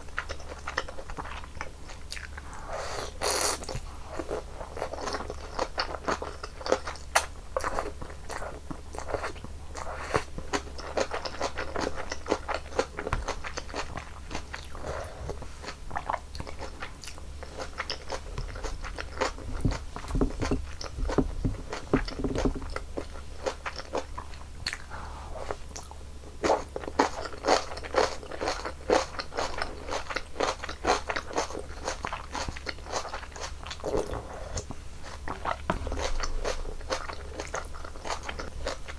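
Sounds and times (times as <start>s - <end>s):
chewing noodles: 0.0s - 38.9s.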